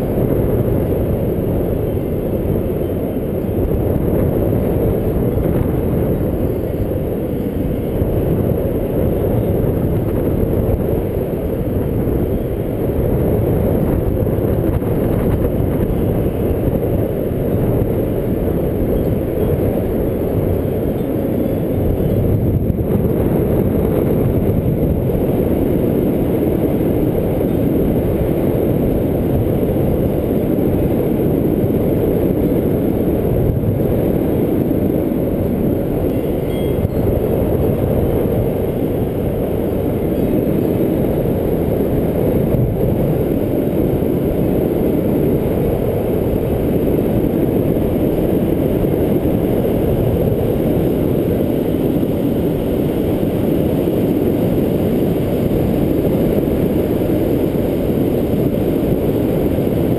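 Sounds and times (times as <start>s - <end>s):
loud wind rumble on microphone: 0.0s - 59.9s.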